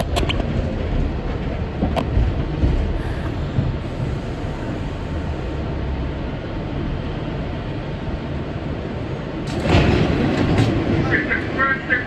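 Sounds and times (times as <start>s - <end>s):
subway train rumbling on track: 0.0s - 12.0s.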